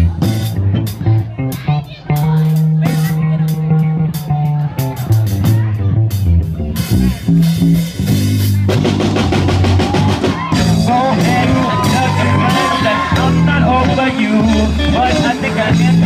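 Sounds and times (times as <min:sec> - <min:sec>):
bass guitar: 0:00.0 - 0:16.0
drum kit: 0:00.0 - 0:16.0
electric guitar: 0:00.0 - 0:16.0.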